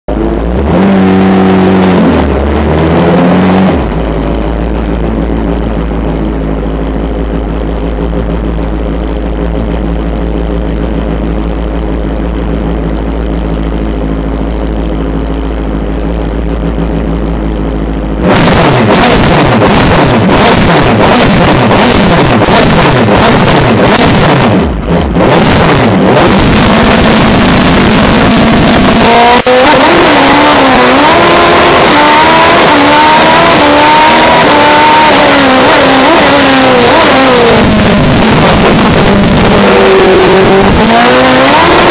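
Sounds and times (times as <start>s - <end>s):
race car engine revving: 0.1s - 41.9s.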